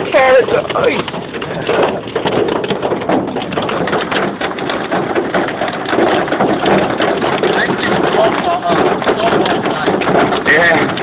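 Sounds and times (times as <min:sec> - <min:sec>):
hailstones pelting down: 0:00.0 - 0:11.0.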